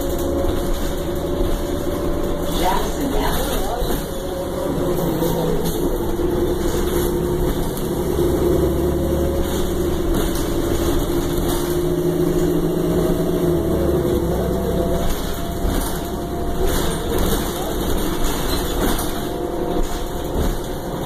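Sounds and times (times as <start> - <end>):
bus engine rumbling and humming: 0.0 - 21.0.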